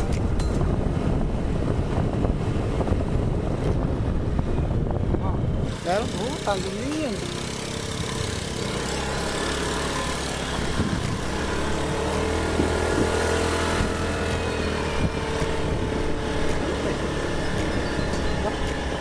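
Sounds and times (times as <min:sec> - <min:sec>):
road and wind noise: 0:00.0 - 0:19.0
vehicle engine running: 0:00.1 - 0:19.0.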